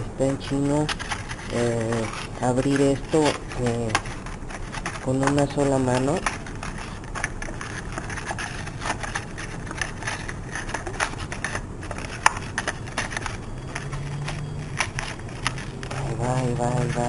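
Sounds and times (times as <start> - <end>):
plastic blister pack crinkling: 0.0 - 17.0.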